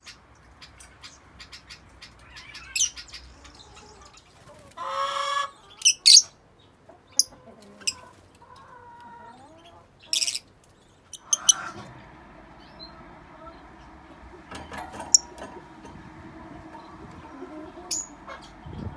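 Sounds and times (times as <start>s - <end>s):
birds chirping and shrieking: 0.0s - 18.9s.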